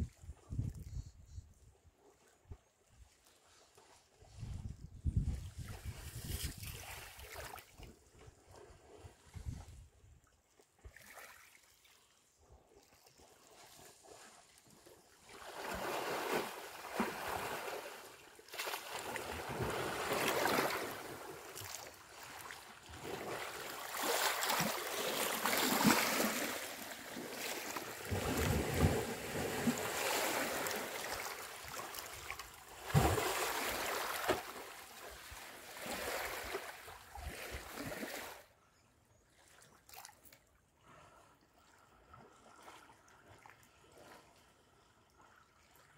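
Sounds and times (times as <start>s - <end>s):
water splashing and sloshing: 2.0s - 38.5s, 39.3s - 45.9s.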